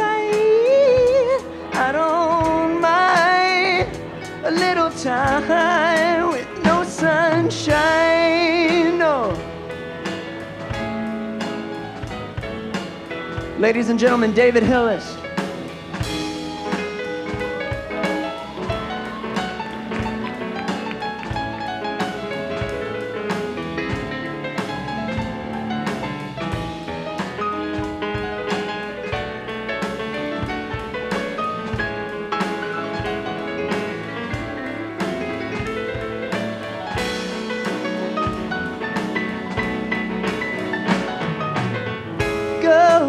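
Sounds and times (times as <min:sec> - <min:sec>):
drum kit beat: 0:00.0 - 0:43.0
live country band instrumental: 0:00.0 - 0:43.0.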